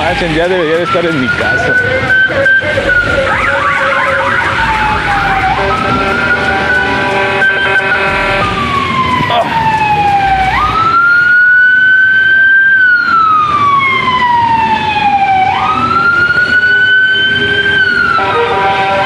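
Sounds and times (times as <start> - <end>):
emergency siren wailing: 0.0 - 19.0.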